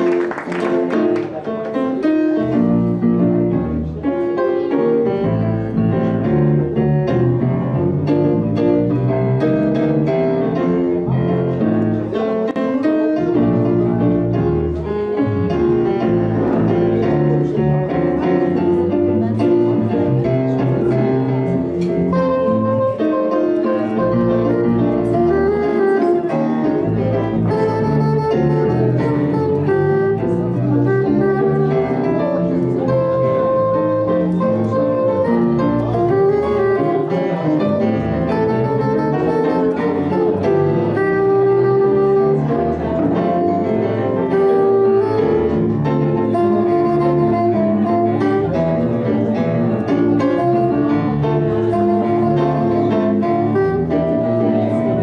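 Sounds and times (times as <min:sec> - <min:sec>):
double bass line: 0:00.0 - 0:55.0
grand piano melody: 0:00.0 - 0:55.0.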